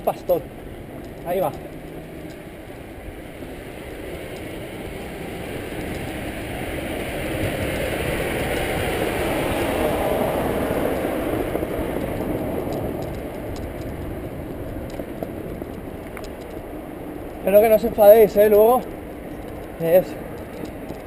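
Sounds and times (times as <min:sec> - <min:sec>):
car passing: 0:00.0 - 0:21.0
steady low rumble: 0:00.0 - 0:21.0.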